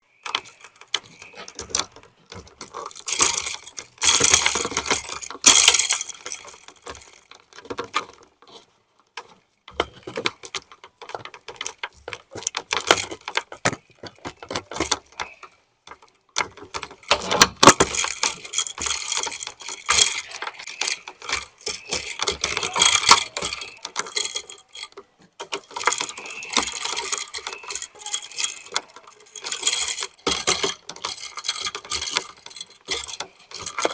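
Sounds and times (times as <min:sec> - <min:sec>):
hand tools clinking: 0:00.2 - 0:08.6, 0:09.7 - 0:33.9.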